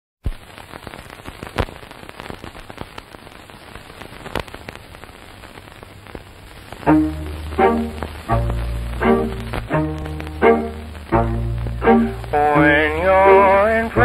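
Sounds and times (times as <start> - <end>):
crackling hiss with clicks: 0.2 - 14.0.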